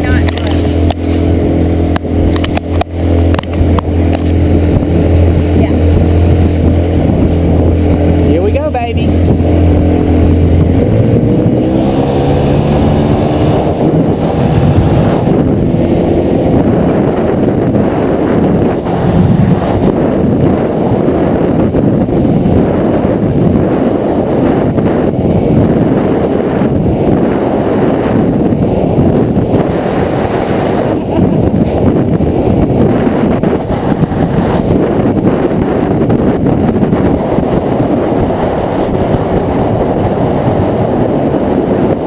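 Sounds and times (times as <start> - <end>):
motorboat engine throttling up: 0.0 - 42.0
rush of wind and water: 0.0 - 42.0.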